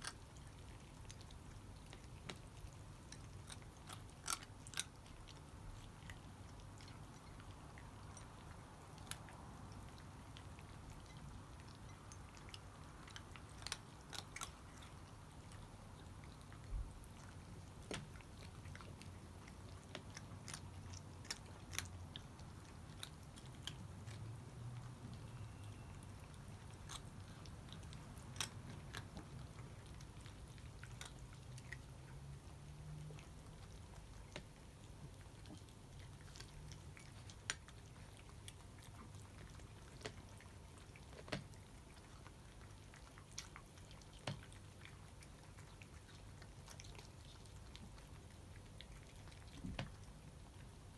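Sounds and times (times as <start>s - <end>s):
cats crunching dry kibble: 0.0s - 50.9s
faint low hum: 0.0s - 50.9s.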